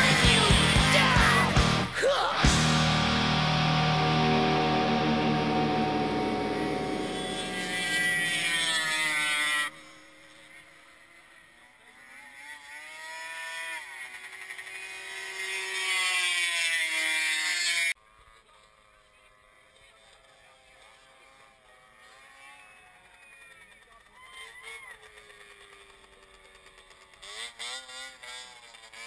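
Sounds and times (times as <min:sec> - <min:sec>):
snowmobile engines whining: 0:00.0 - 0:29.0.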